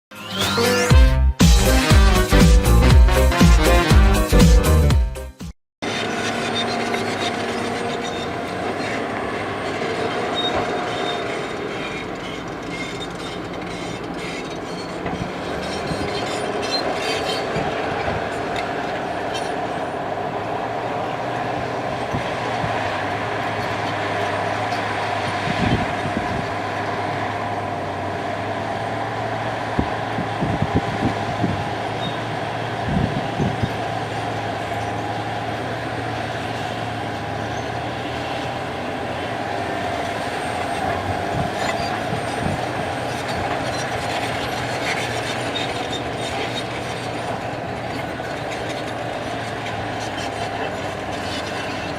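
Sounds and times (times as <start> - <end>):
heavy machinery engine drone: 0.1 - 5.0, 5.8 - 51.9.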